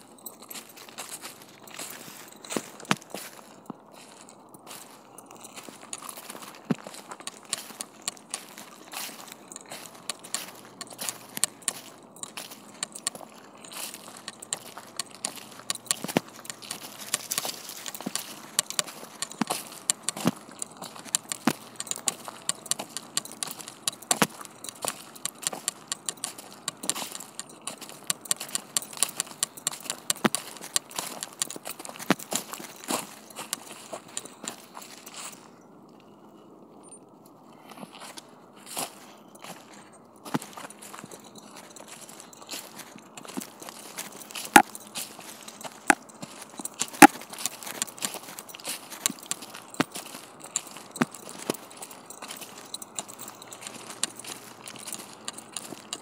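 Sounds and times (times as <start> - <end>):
footsteps on dry leaves and gravel: 0.0 - 36.2, 37.5 - 56.0
trekking poles clicking on ground: 0.0 - 36.3, 37.3 - 56.0.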